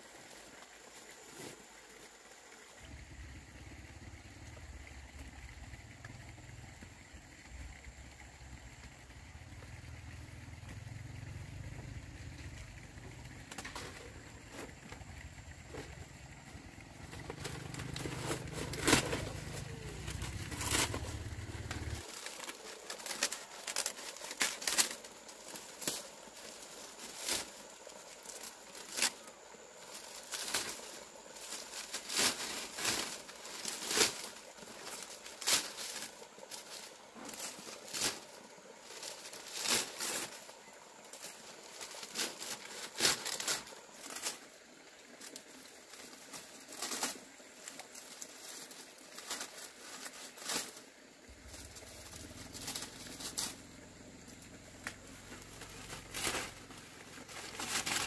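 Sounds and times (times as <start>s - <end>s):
dry leaves rustling and crackling: 9.5s - 58.0s.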